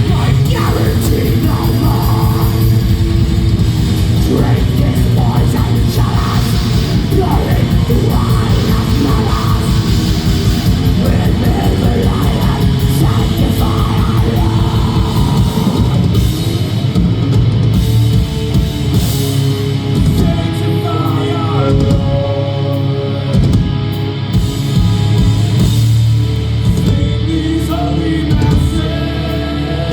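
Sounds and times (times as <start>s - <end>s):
bass guitar: 0.0s - 29.9s
distorted electric guitars: 0.0s - 29.9s
drum kit: 0.0s - 29.9s.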